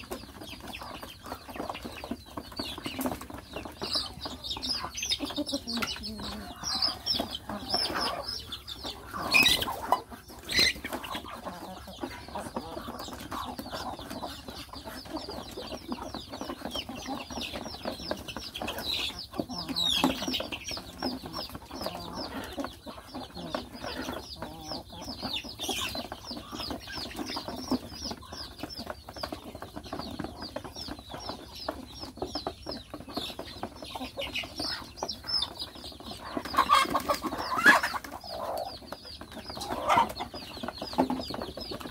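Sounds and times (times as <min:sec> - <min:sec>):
chicks clucking and peeping: 0:00.0 - 0:41.9.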